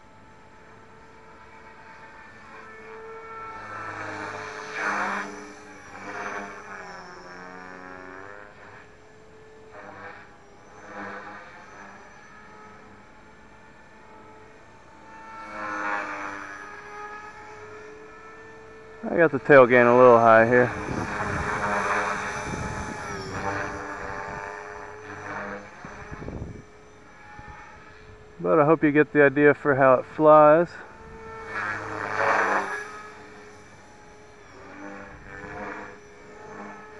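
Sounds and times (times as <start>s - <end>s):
rc helicopter motor whine: 0.0s - 36.9s
rotor blades whirring: 0.0s - 36.9s.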